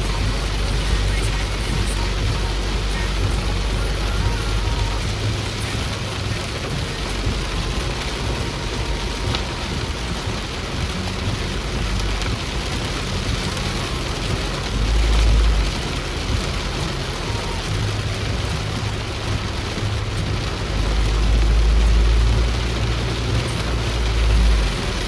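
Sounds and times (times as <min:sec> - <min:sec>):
heavy rain and wet road noise: 0:00.0 - 0:25.0
low engine rumble: 0:00.0 - 0:25.0.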